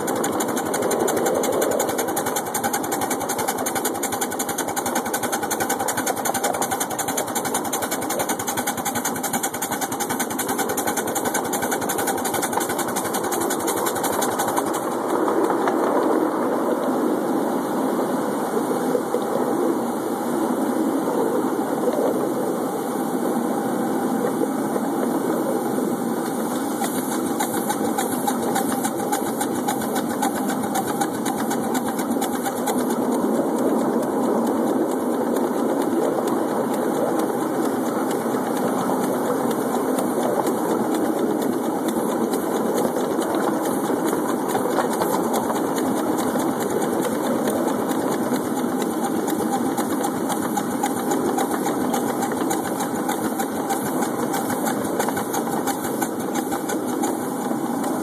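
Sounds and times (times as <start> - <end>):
steam locomotive clatter: 0.0 - 16.6, 24.2 - 58.0.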